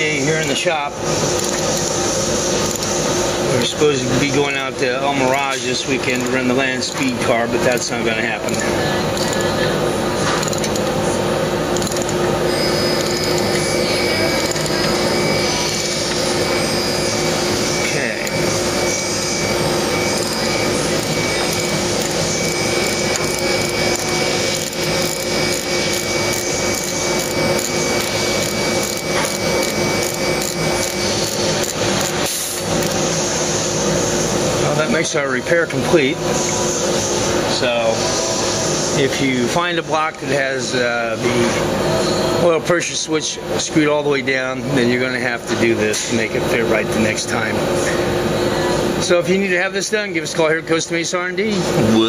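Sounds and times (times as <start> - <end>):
shop hum: 0.0 - 52.0.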